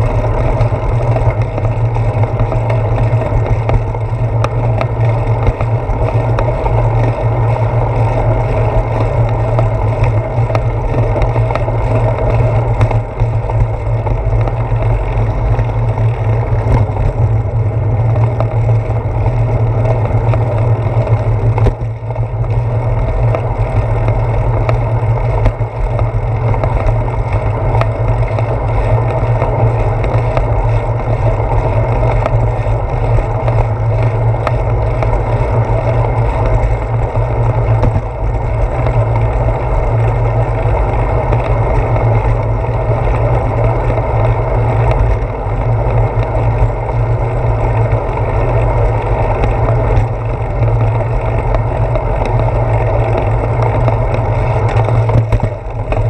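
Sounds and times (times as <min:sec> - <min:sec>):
bicycle road rumble: 0:00.0 - 0:56.0
wind noise: 0:00.0 - 0:56.0.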